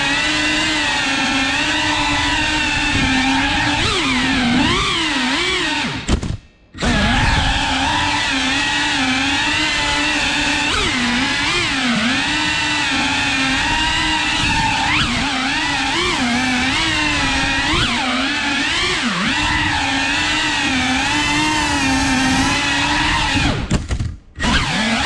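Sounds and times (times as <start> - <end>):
drone motors whining: 0.0 - 23.8, 24.4 - 25.0.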